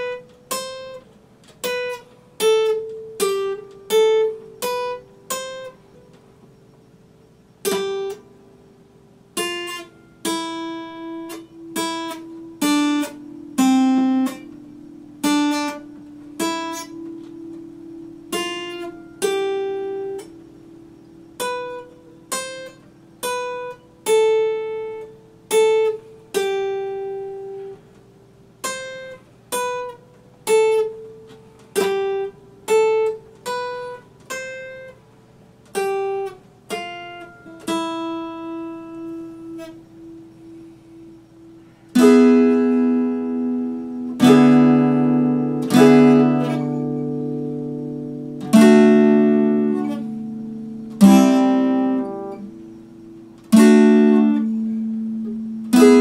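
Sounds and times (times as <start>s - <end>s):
fingerstyle acoustic guitar: 0.0s - 56.0s.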